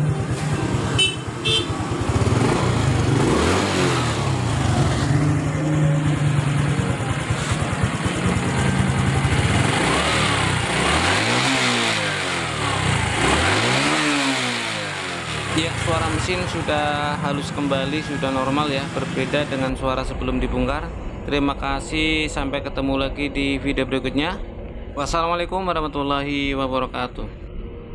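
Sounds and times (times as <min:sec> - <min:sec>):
motorcycle engine idling and revving: 0:00.0 - 0:24.8.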